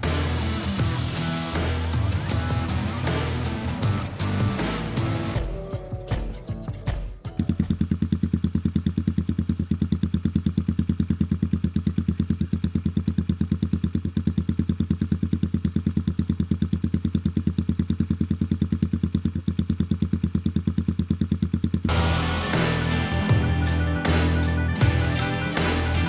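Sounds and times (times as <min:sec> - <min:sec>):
motorcycle engine idling: 0:00.0 - 0:06.2, 0:06.9 - 0:26.0.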